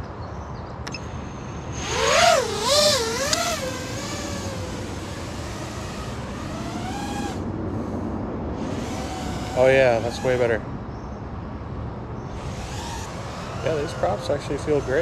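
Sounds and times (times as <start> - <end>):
quadcopter motors whining: 0.8 - 10.8, 12.2 - 15.0.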